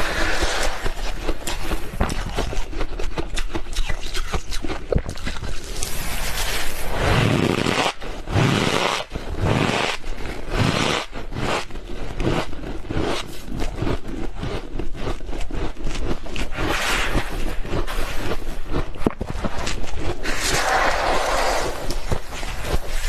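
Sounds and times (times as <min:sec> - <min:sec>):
freezer frost scraping and crunching: 0:00.0 - 0:23.0.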